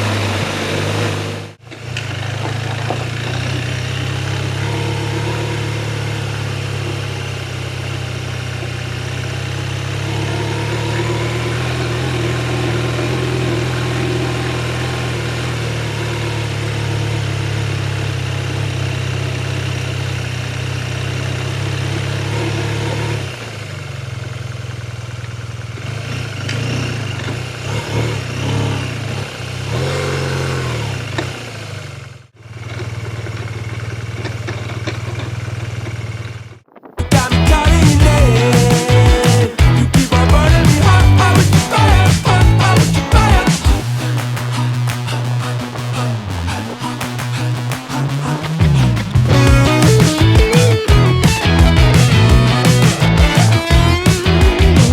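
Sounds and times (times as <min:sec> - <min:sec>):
motorcycle engine running and revving: 0:00.0 - 0:54.9.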